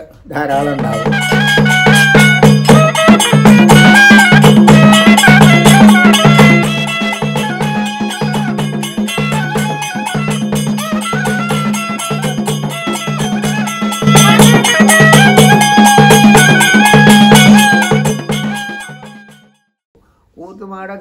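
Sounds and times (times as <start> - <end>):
percussion strikes: 0.0 - 19.7
reed pipe melody: 0.5 - 19.8.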